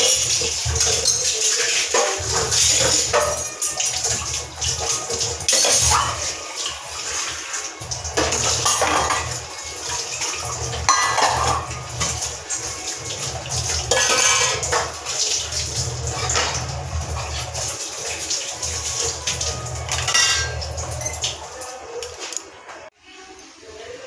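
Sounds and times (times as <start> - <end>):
steel pots clattering in a sink: 0.0 - 22.4
tap water running: 0.0 - 22.6.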